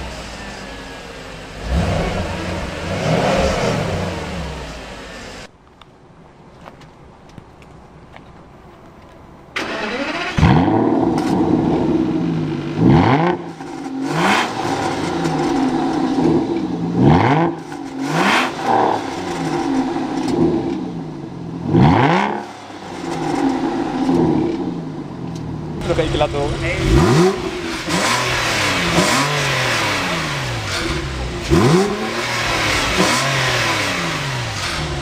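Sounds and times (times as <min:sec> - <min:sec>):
car engine revving in blips: 0:00.0 - 0:05.5, 0:09.6 - 0:35.0.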